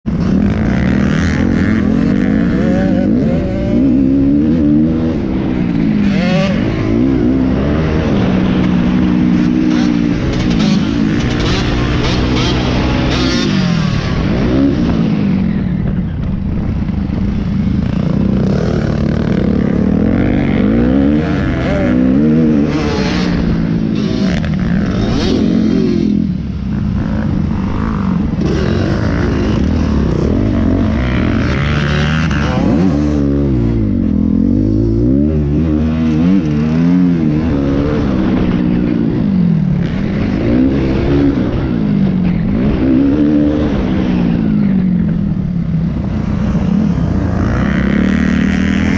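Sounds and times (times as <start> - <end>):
motocross bike engines revving: 0.1 - 48.9.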